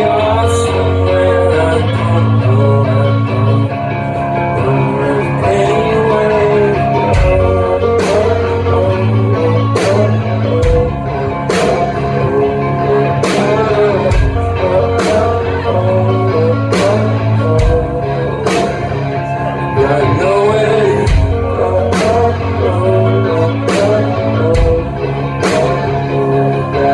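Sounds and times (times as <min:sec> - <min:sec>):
rock band playing live: 0:00.0 - 0:26.9.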